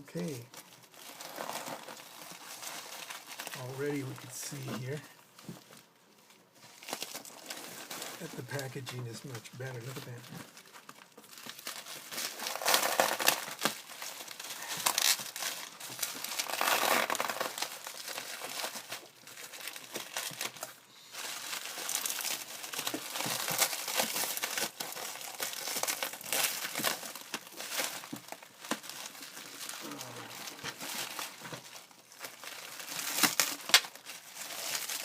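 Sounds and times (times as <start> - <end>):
packing material crinkling and tearing: 0.1 - 35.0.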